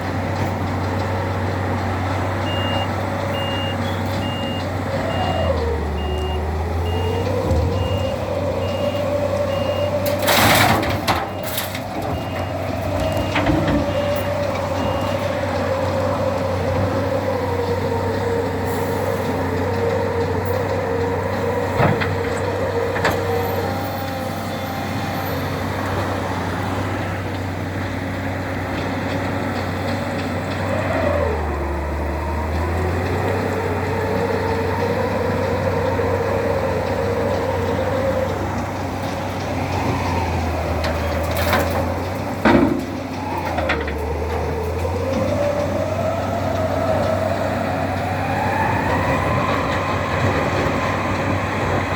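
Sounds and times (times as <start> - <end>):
loader engine whining: 0.0 - 51.9.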